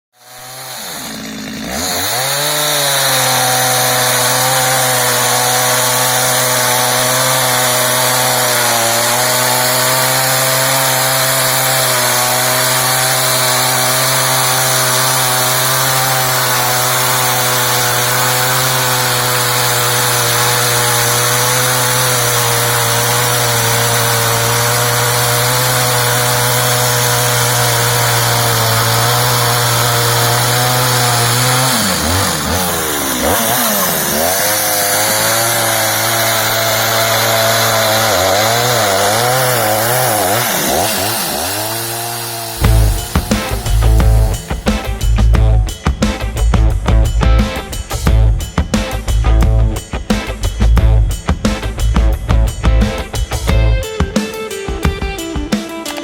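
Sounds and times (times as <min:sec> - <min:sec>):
chainsaw cutting wood: 0:00.1 - 0:56.0.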